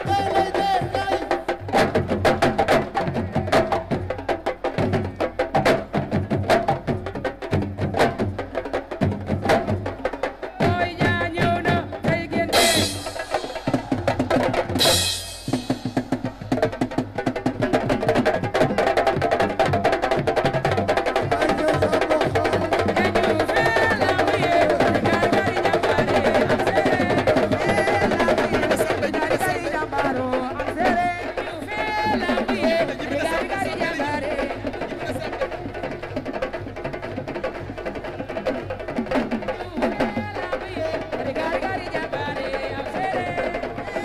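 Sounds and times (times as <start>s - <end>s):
drums playing fast rhythm: 0.0s - 44.0s.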